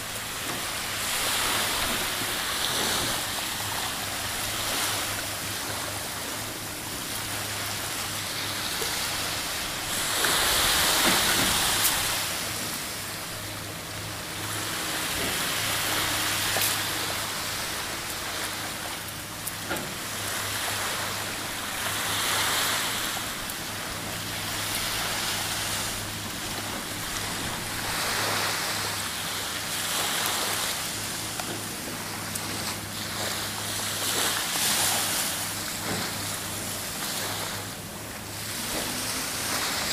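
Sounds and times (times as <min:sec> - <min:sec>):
low mechanical hum: 0:00.0 - 0:39.9
surf washing onto beach: 0:00.0 - 0:39.9.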